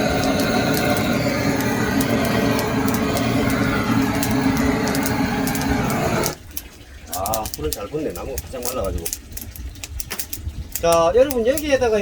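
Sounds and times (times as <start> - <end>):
flames rushing: 0.0 - 10.9
firewood crackling and popping: 0.0 - 12.0.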